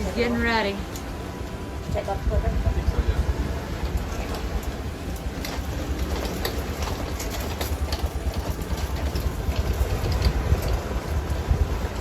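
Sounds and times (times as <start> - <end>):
rumble of wind and water: 0.0 - 12.0.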